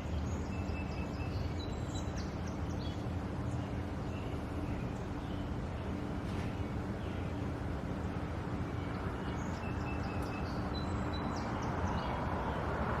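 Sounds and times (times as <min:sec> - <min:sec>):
faint hum: 0:00.0 - 0:12.7
low outdoor rumble: 0:00.0 - 0:13.0.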